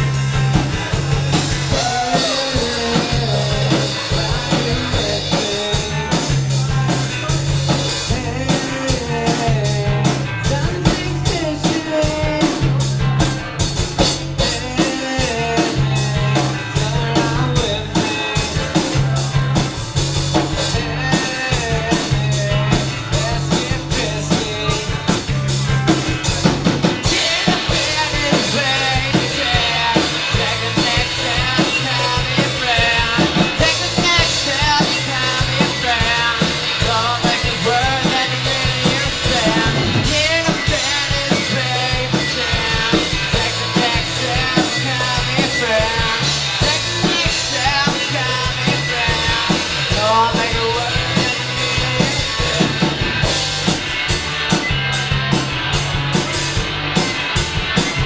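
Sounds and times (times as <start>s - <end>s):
punk rock band playing live: 0.0s - 58.0s.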